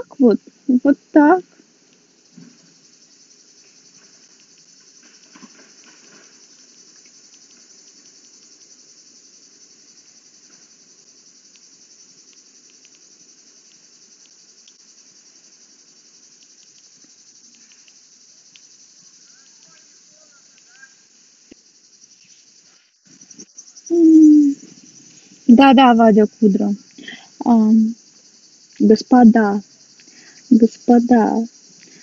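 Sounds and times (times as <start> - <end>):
insects chirring: 0.0 - 32.0.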